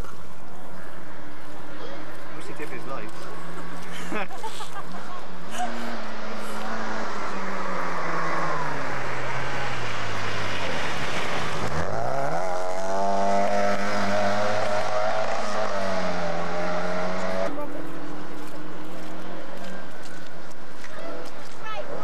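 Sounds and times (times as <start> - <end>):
rally car engine revving: 1.7 - 22.0.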